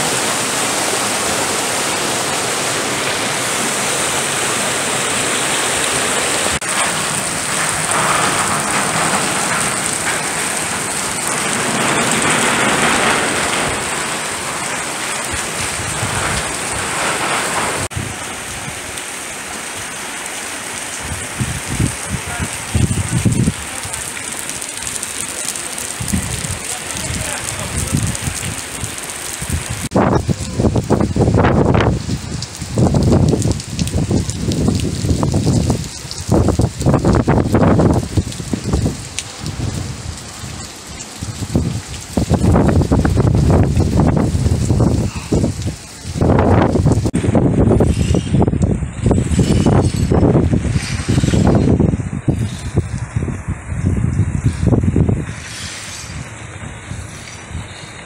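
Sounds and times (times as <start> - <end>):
low gusty rumbles: 0.0 - 19.0, 20.9 - 57.9
floodwater rushing along street: 0.0 - 58.0
heavy rain pouring: 0.0 - 58.0.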